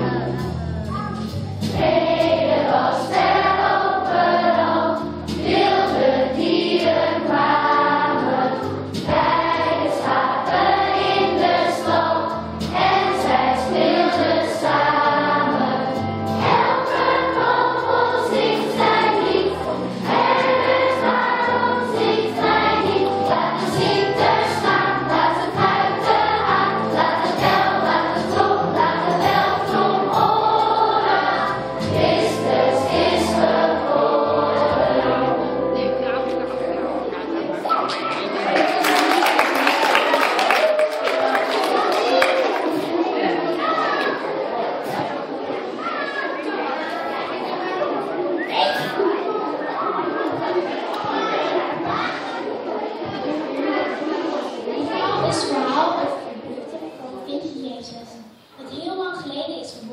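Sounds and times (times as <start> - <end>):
children's choir singing: 0.0 - 57.2.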